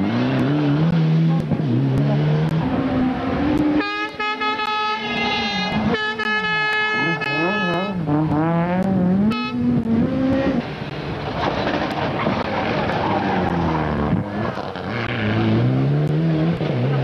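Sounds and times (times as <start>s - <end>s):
turbo car engine accelerating: 0.0s - 3.8s, 7.0s - 17.0s
rally car engine revving: 0.0s - 17.0s.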